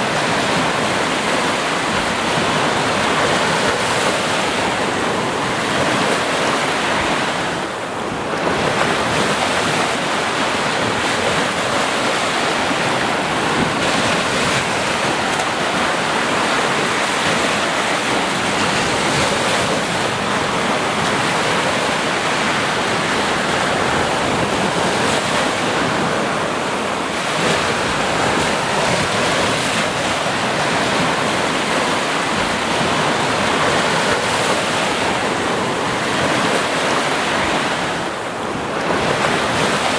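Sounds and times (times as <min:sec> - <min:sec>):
sea waves breaking on a beach: 0:00.0 - 0:39.9
wind noise on microphone: 0:00.0 - 0:39.9.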